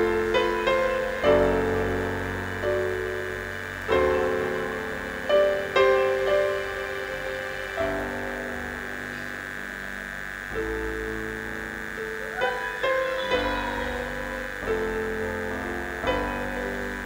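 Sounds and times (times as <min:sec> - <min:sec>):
high-pitched hum: 0:00.0 - 0:17.0
slow keyboard chords: 0:00.0 - 0:17.0.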